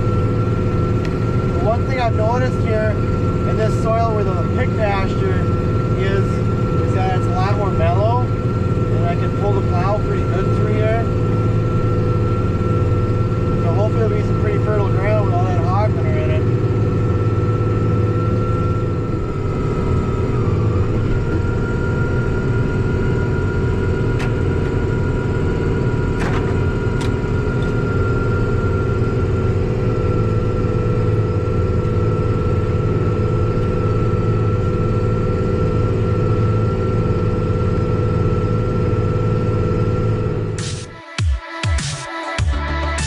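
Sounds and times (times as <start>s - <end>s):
tractor engine running under load: 0.0s - 40.9s
high whine: 0.0s - 43.0s.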